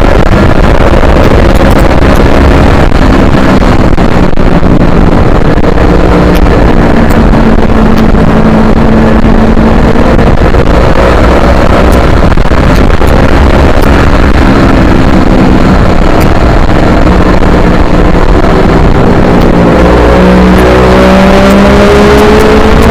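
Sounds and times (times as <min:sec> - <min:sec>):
heavy wind noise: 0:00.0 - 0:22.9
motorcycle engine running hard: 0:00.0 - 0:22.9.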